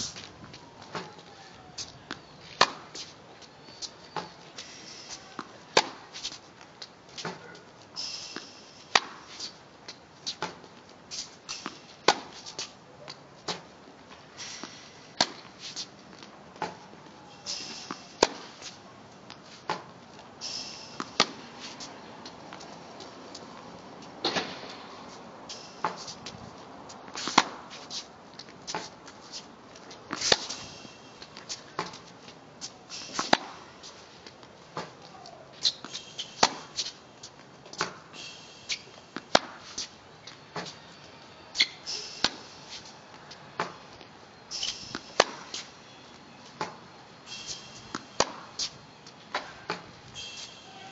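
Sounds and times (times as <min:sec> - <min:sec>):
racket hitting tennis ball: 0:00.0 - 0:03.2, 0:03.8 - 0:21.9, 0:24.2 - 0:40.8, 0:41.5 - 0:43.0, 0:43.6 - 0:43.8, 0:44.5 - 0:45.8, 0:46.6 - 0:50.9.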